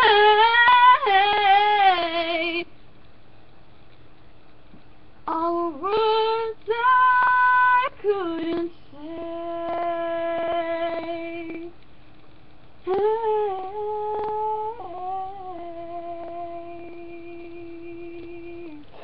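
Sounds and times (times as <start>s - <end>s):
woman singing a cappella: 0.0s - 2.8s, 5.2s - 11.8s, 12.8s - 19.0s.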